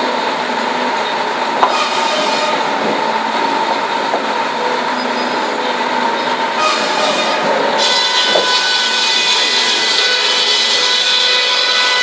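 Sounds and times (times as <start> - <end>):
sawmill machinery whine: 0.0 - 12.0.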